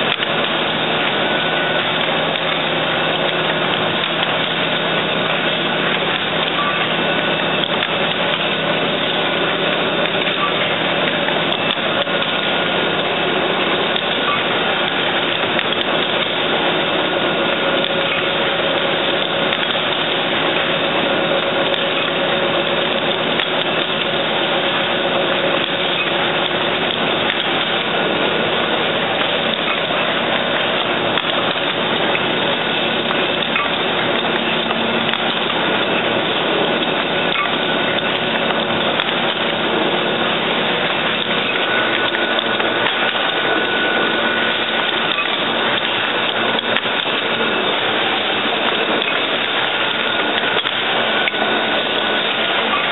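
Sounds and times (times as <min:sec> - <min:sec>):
machine clattering and humming: 0:00.0 - 0:52.9.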